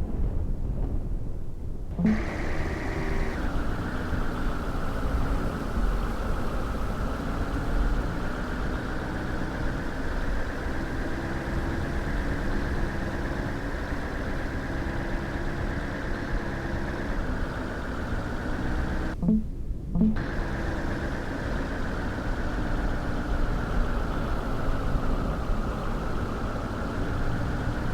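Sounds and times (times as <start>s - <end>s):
car engine running: 1.9s - 27.9s
road noise: 1.9s - 27.9s.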